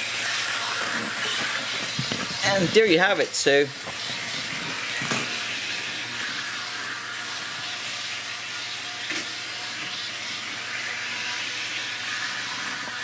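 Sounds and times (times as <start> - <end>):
model train motor whirring: 0.0 - 13.0.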